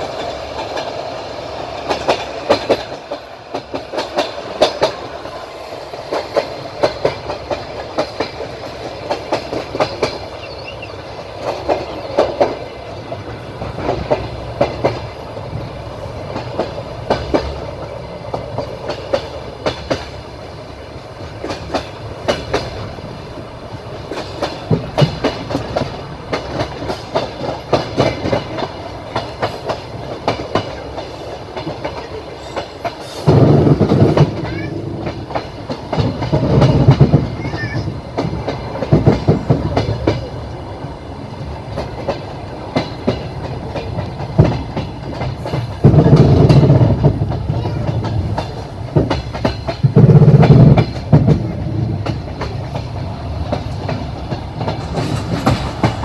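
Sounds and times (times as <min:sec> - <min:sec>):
train rumbling: 0:00.0 - 0:56.0
train wheels clattering over rail joints: 0:00.0 - 0:56.0.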